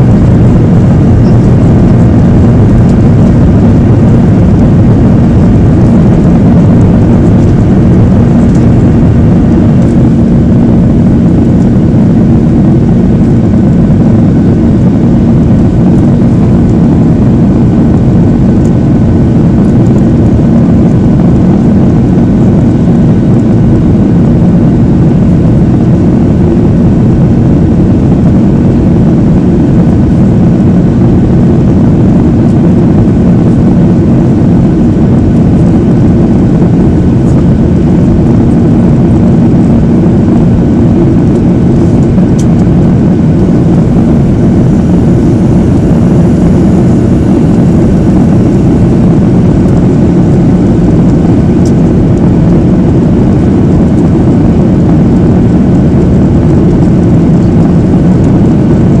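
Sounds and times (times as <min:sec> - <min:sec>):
jet engine rush: 0:00.0 - 0:59.0
steady low hum: 0:00.0 - 0:59.0.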